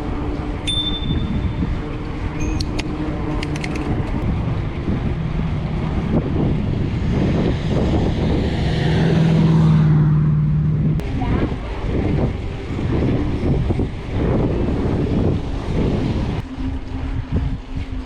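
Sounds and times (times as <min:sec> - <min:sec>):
motor vehicle passing: 0:00.0 - 0:17.9
bike tyres rumbling: 0:00.0 - 0:18.0
wind on microphone: 0:00.0 - 0:18.0.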